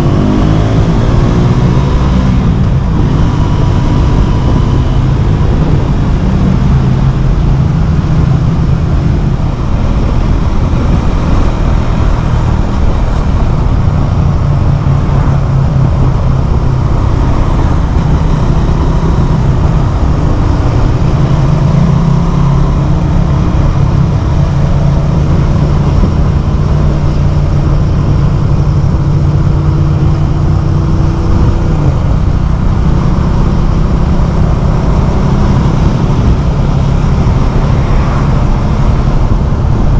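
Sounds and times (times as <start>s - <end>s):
loud motorcycle engine running: 0.0s - 39.9s.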